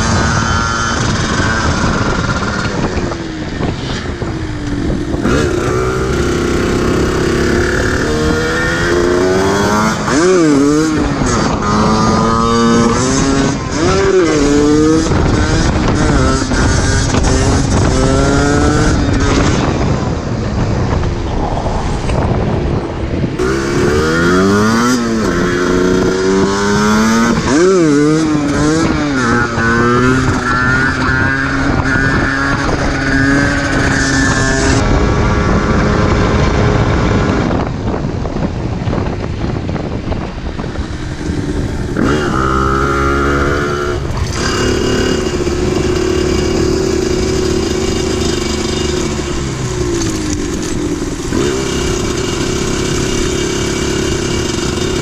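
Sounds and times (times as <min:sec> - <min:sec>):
two-stroke motorcycle engine revving: 0:00.0 - 0:21.0, 0:23.4 - 0:55.0.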